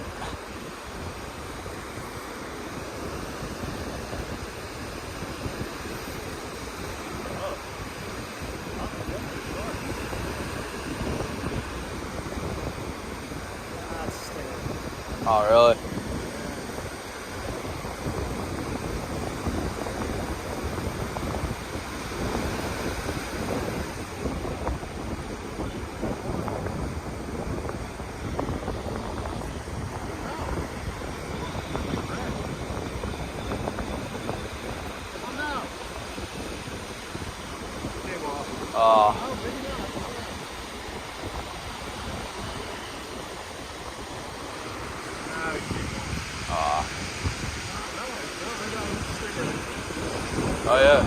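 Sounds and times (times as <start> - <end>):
ocean rush: 0.0 - 51.0
surf washing: 0.0 - 51.0
wind buffeting microphone: 0.0 - 51.0.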